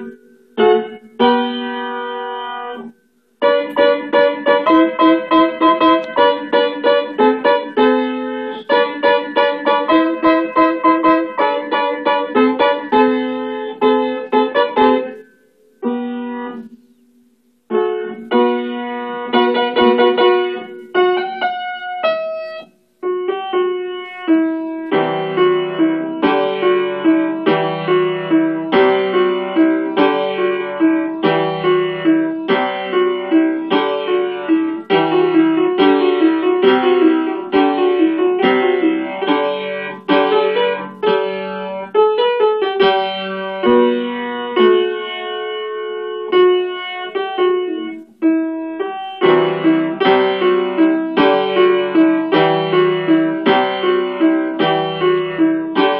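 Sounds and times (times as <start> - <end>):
upright piano playing: 0.0 - 55.9.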